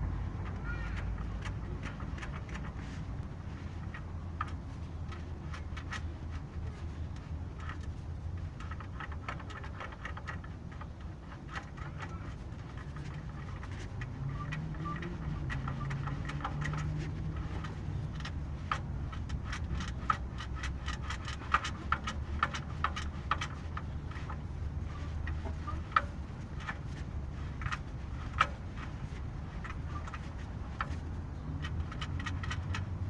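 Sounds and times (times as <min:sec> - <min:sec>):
car engine running: 0:00.0 - 0:33.0
compressor clutch ticking and knocking: 0:00.0 - 0:33.0.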